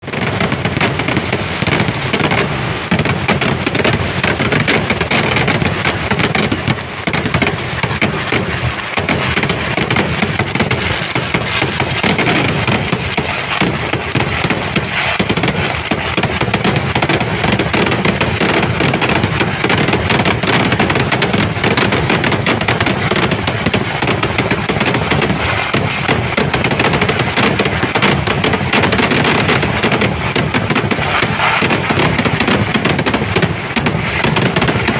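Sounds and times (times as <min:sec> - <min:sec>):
fireworks explosions barrage: 0:00.0 - 0:34.9.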